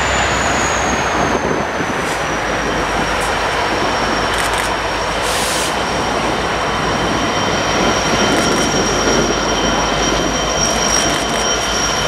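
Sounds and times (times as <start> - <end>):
high-pitched squeal: 0.0 - 12.0
locomotive engines running: 0.0 - 12.0
train wheels rolling on rails: 0.0 - 12.0.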